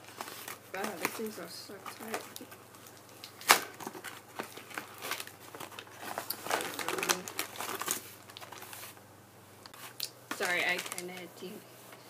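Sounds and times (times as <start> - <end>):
plastic packaging crinkling: 0.0 - 9.0, 9.7 - 11.6.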